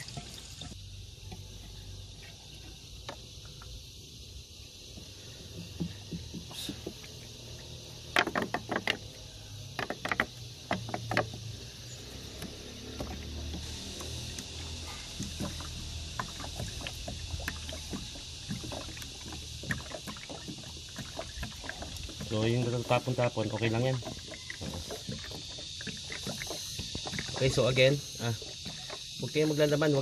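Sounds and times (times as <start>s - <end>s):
coolant pouring with hiss: 0.0s - 30.0s.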